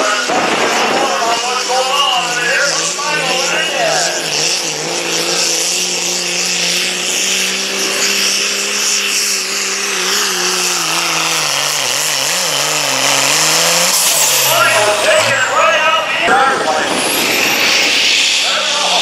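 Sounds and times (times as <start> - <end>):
diesel truck engine under full load: 0.0 - 19.0.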